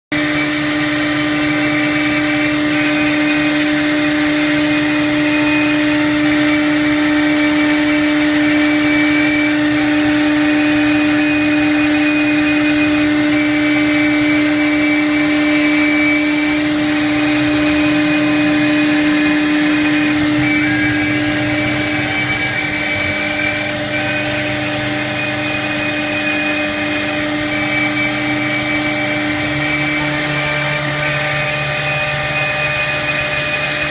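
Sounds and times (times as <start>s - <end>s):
bit cutting wood: 0.1s - 33.9s
router spindle whine: 0.1s - 33.9s.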